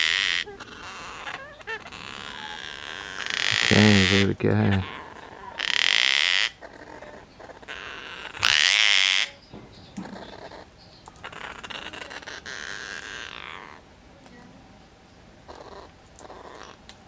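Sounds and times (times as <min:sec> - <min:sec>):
cockatoo chicks begging calls: 0:00.0 - 0:13.9.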